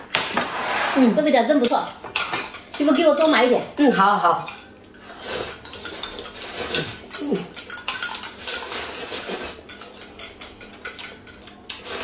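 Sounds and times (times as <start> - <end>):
spoons clinking in glass cups: 1.7 - 11.9.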